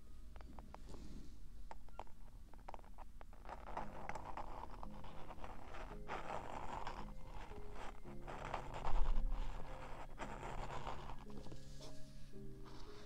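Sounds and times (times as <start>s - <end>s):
faint background music: 0.0s - 13.0s
fingertips scratching microphone: 0.4s - 13.0s.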